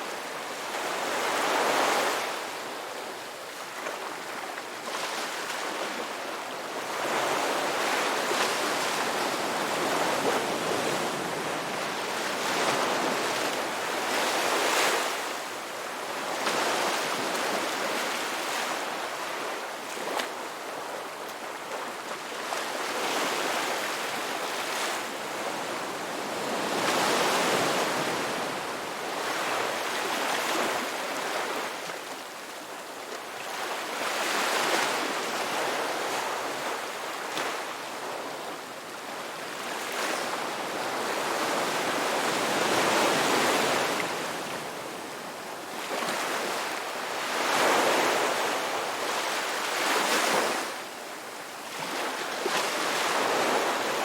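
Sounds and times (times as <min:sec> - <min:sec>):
ocean waves breaking on shore: 0:00.0 - 0:02.8, 0:03.4 - 0:54.0.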